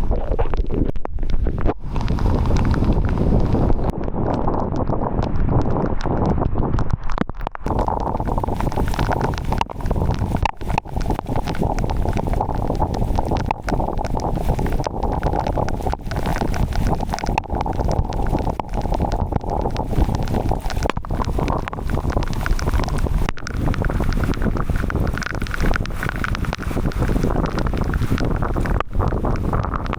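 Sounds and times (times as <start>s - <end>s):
strong wind on microphone: 0.0s - 29.9s.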